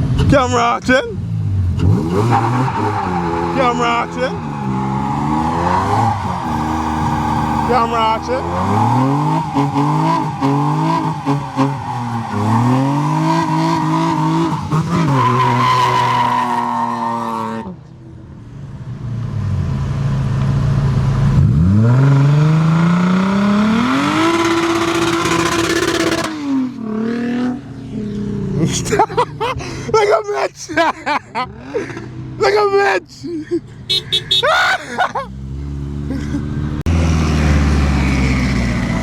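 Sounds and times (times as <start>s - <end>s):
car engine revving: 0.0s - 29.8s, 35.2s - 39.0s.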